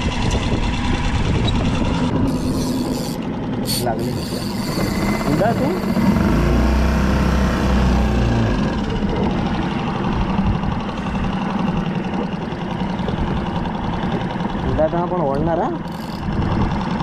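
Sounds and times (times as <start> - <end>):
outboard motor running: 0.0 - 17.0
water rushing along hull: 0.0 - 17.0.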